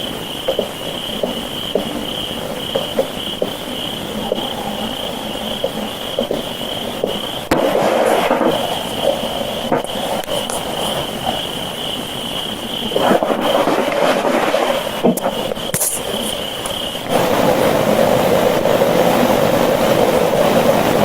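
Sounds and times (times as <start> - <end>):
night insects trilling: 0.0 - 21.0.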